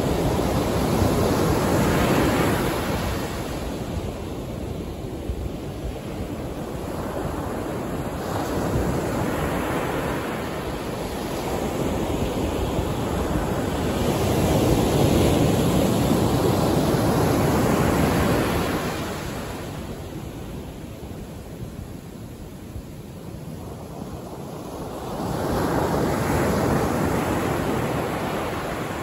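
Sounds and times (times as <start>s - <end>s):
ocean waves breaking on sand: 0.0s - 29.0s.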